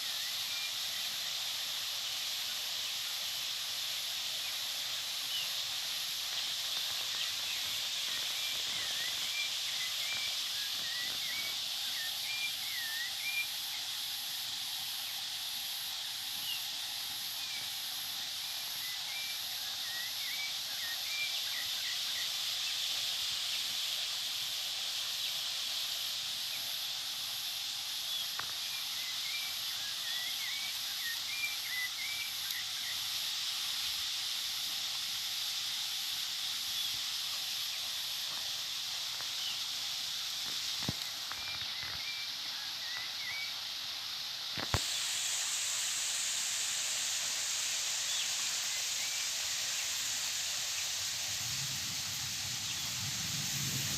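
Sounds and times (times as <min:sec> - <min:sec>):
steady high hiss: 0:00.0 - 0:53.9.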